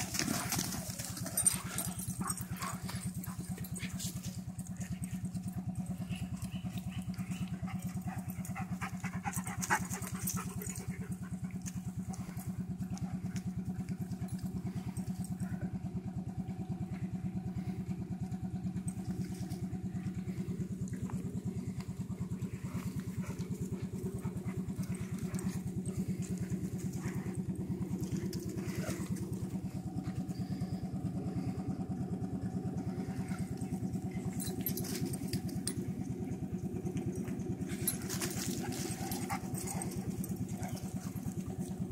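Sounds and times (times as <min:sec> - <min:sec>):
small engine idling: 0:00.0 - 0:41.9.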